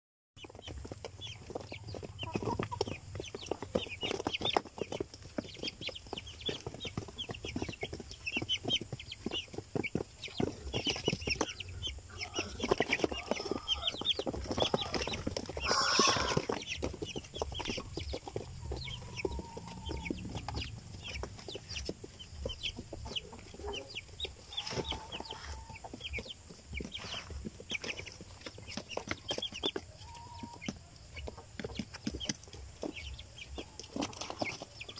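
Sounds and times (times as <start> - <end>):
chicks peeping and clucking: 0.4 - 34.9.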